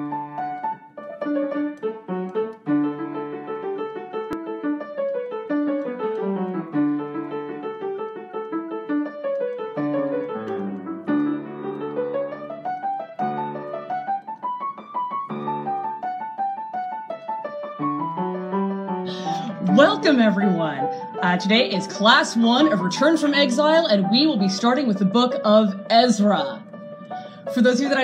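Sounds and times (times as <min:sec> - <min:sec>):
piano music with flowing runs: 0:00.0 - 0:28.0.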